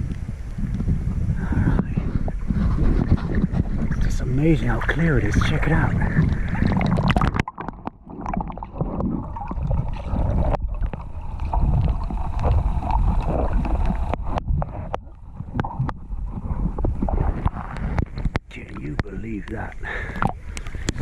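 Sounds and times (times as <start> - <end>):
water sloshing against hull: 0.0 - 21.0
wind buffeting microphone: 0.0 - 21.0.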